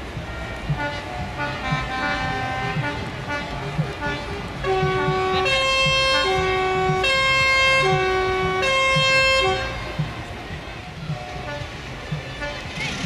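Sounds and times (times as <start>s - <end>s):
truck two-tone horn: 0.3s - 10.0s, 11.2s - 13.0s.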